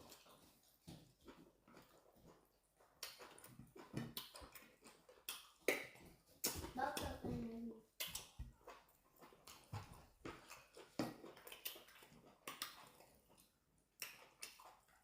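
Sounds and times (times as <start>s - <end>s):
mouth chewing and smacking: 0.0s - 15.0s.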